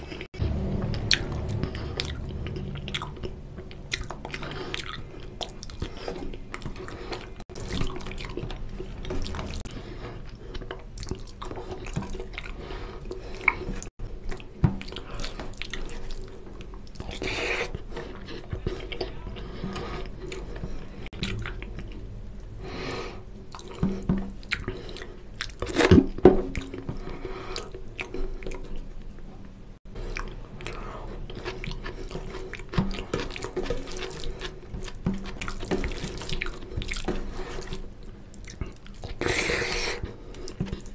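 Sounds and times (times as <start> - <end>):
chewing and lip-smacking: 0.0 - 29.3, 29.9 - 40.9.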